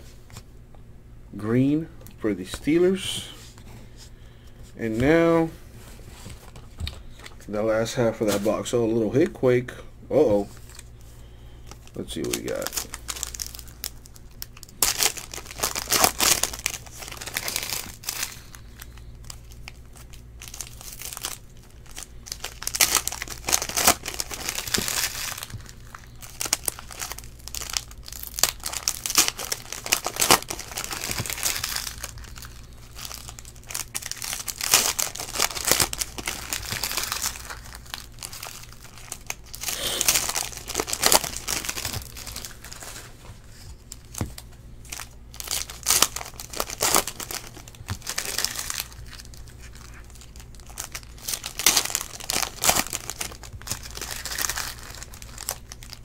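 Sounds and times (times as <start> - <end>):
steady low hum: 0.0 - 56.0
foil wrappers crinkling: 10.4 - 56.0.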